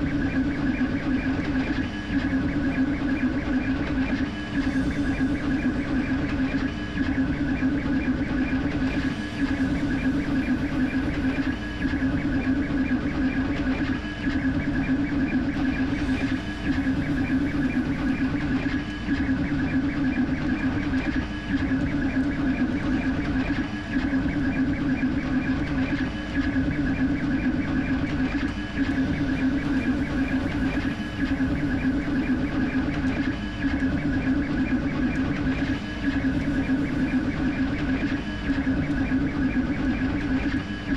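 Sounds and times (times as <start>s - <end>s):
fans running: 0.0s - 40.9s
printer motors whining: 0.0s - 40.9s.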